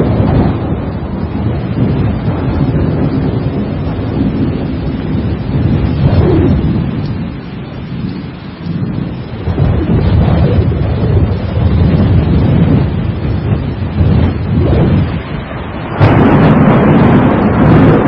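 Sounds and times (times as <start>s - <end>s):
rolling thunder: 0.0s - 18.0s
steady rain: 0.0s - 18.0s.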